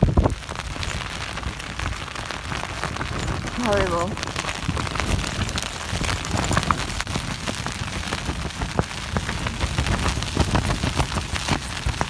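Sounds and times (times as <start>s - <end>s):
rain rattling on tent fabric: 0.0s - 12.0s
strong wind buffeting tent: 0.0s - 12.0s.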